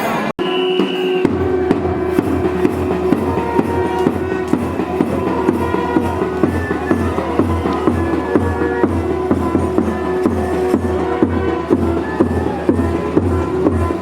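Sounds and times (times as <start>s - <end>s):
steady drum beat: 0.4s - 14.0s
held low note: 0.8s - 14.0s.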